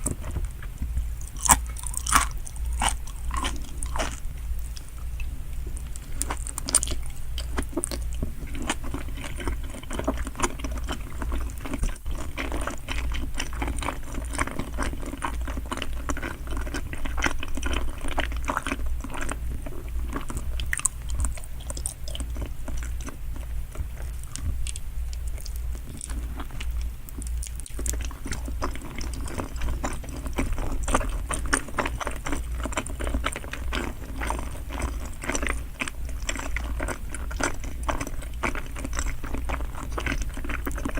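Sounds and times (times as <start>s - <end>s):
close-miked chewing: 0.0s - 40.9s.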